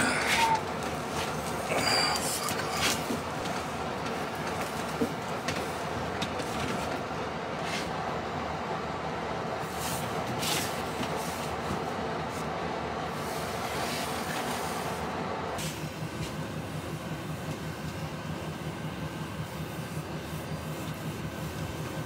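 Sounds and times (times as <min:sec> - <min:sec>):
machinery rumble and hiss: 0:00.0 - 0:22.0.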